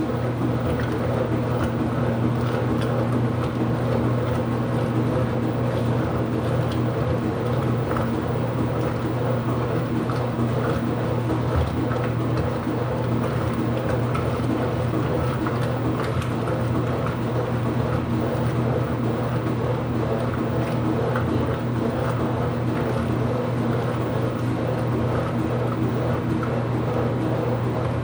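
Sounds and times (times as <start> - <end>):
washing machine humming: 0.0 - 28.0.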